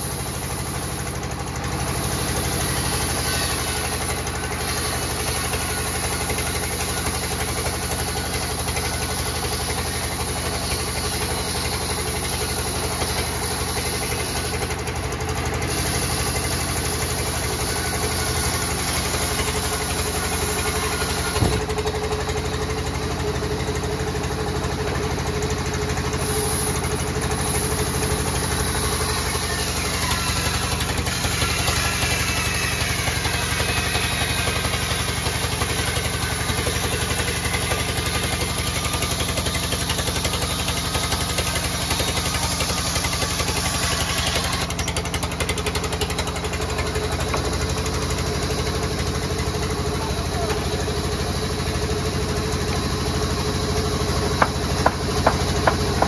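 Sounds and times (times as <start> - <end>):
band saw cutting a log: 0.0 - 56.0.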